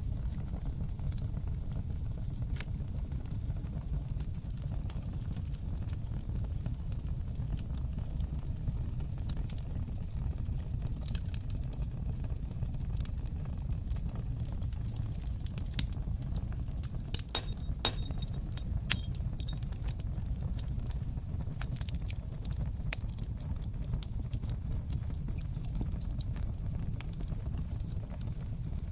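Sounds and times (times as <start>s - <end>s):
fire popping and snapping: 0.0s - 28.9s
low rumble of flames: 0.0s - 28.9s.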